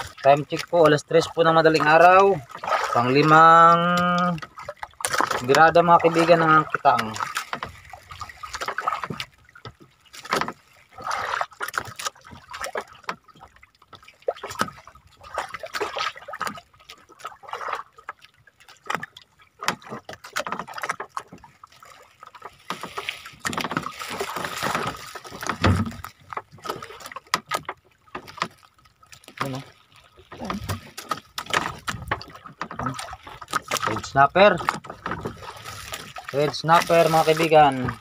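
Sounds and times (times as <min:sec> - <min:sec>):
sea water splashing and sloshing: 0:00.0 - 0:38.0.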